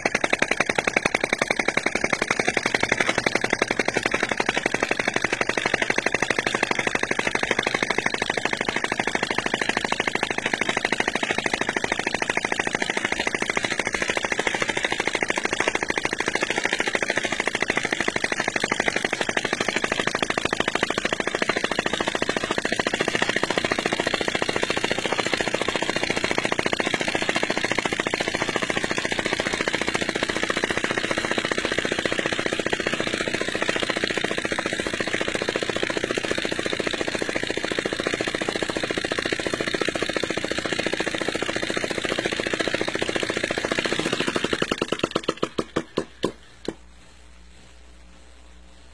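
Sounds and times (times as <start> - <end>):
model engine mechanical clatter: 0.0 - 46.8.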